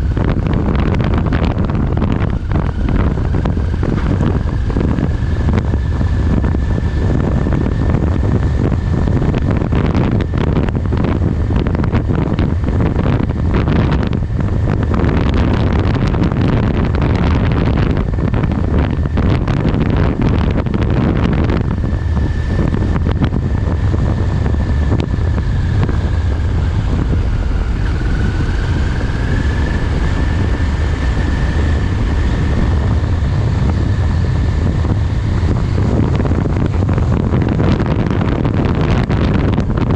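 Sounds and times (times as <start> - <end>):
low engine drone: 0.0 - 39.9
thin whine: 0.0 - 39.9
wind rushing over microphone: 0.0 - 39.9.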